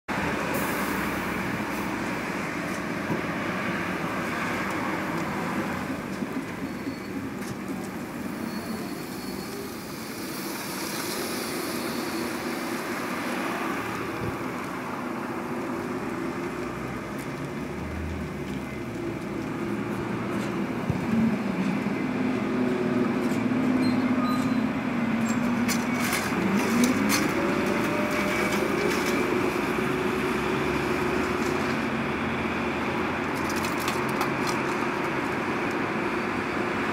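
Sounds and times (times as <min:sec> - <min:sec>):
tyres and traffic rumble: 0:00.0 - 0:36.9
trolleybus electric drive humming: 0:00.1 - 0:36.9.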